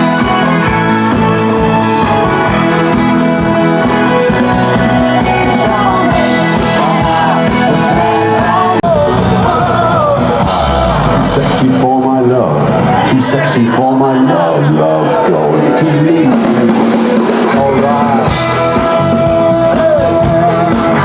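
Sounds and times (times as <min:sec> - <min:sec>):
person singing: 0:00.0 - 0:11.9, 0:12.8 - 0:21.0
sustained instrumental notes: 0:00.0 - 0:21.0.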